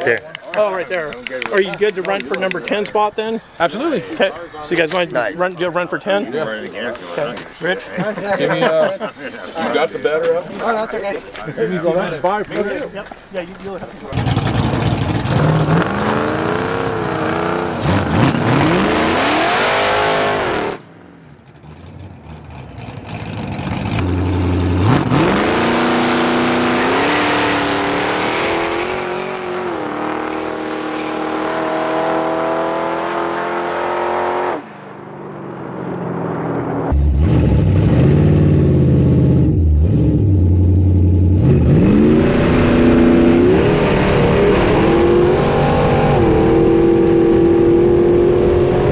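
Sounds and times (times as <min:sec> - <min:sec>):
car engines revving and accelerating: 0:00.0 - 0:48.9.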